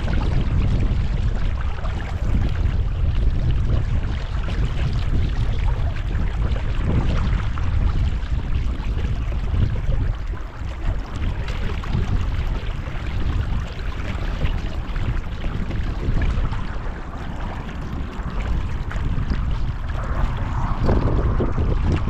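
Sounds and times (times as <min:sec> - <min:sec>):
water sloshing against hull: 0:00.0 - 0:22.0
wind buffeting microphone: 0:00.0 - 0:22.0.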